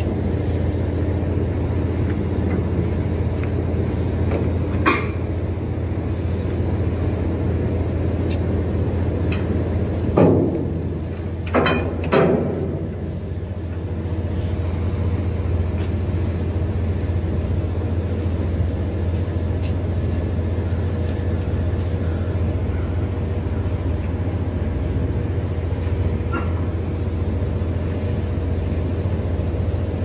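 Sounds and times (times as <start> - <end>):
faint steady whine: 0.0 - 30.0
ferry engines droning: 0.0 - 30.0.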